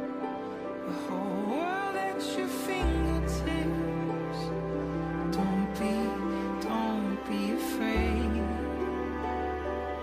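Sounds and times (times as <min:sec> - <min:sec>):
slow tender background music: 0:00.0 - 0:10.0.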